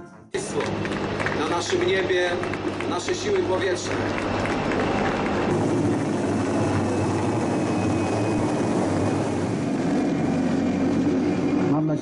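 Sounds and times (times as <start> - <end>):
helicopter flying overhead: 0.4 - 12.0.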